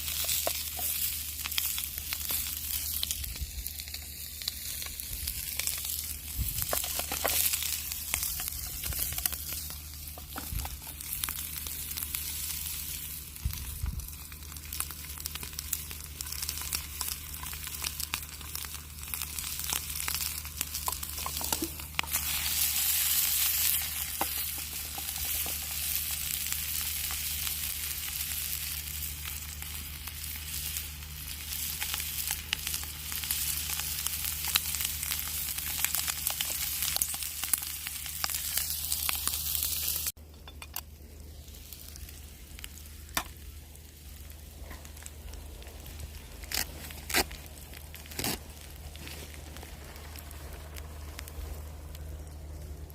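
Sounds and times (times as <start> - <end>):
campfire crackling and popping: 0.0 - 52.9
low steady hum: 0.0 - 52.9.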